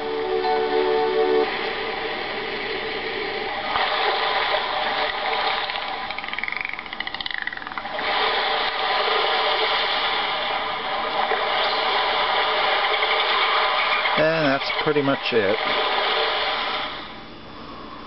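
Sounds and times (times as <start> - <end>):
ocean waves recording: 1.4 - 7.0, 7.8 - 17.2.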